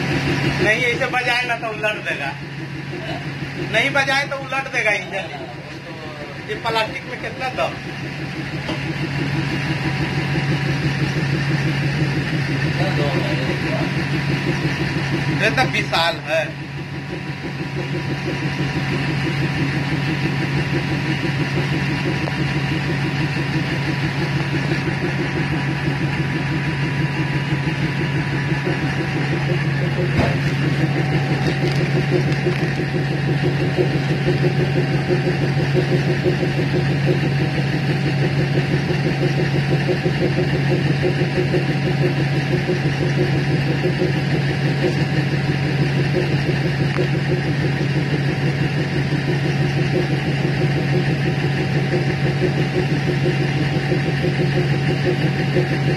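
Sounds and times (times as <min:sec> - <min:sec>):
train diesel engine running: 0:00.0 - 0:55.9.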